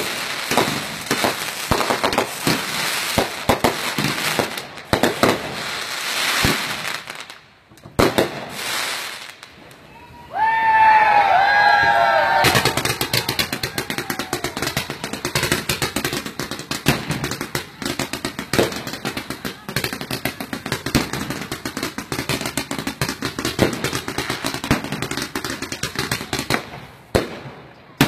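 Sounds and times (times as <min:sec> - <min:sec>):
fireworks crackling bangs: 0:00.0 - 0:28.0.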